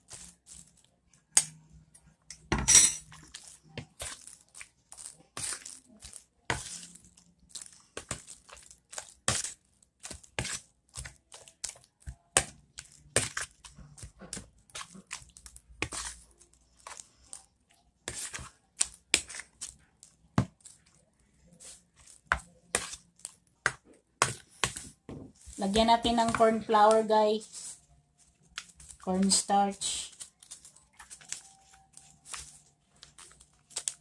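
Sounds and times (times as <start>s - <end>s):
spoon mashing wet mixture: 0.0s - 34.0s.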